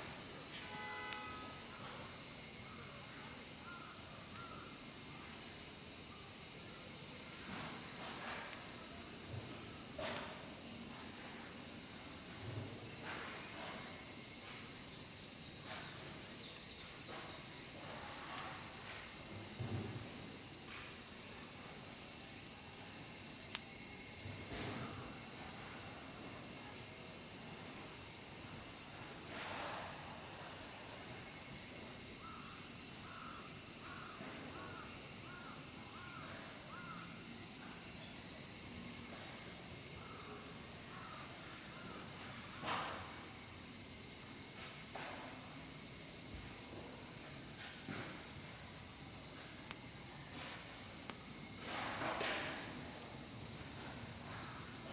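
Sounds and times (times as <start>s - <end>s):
high-pitched insects chorus: 0.0s - 54.9s.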